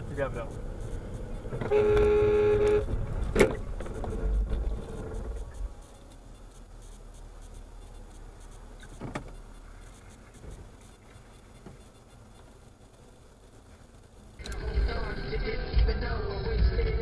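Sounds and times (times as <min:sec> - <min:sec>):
car cabin rumble: 0:00.0 - 0:16.2.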